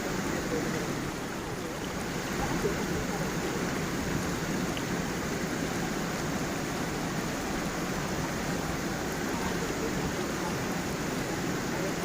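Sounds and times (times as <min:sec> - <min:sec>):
stream flowing over small waterfall: 0:00.0 - 0:12.0.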